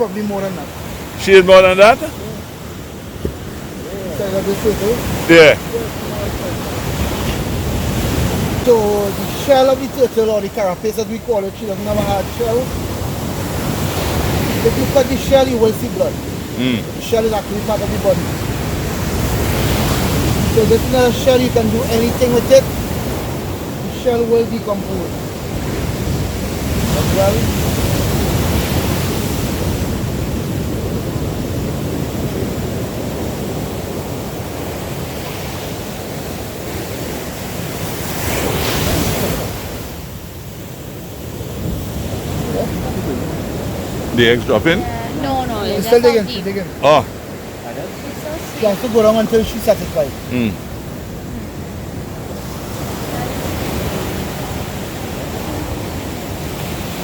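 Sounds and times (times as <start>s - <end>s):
surf washing on a beach: 0.0s - 57.0s
wind buffeting microphone: 2.0s - 57.0s.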